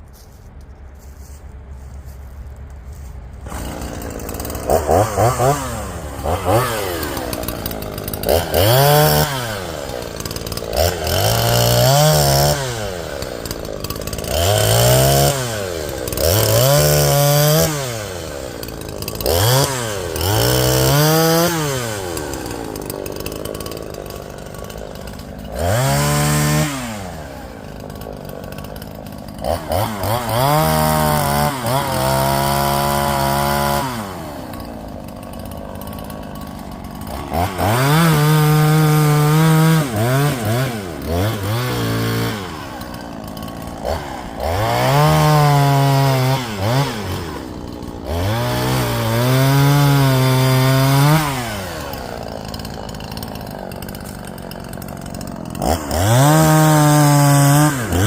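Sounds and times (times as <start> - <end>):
chainsaw revving: 3.4 - 58.0.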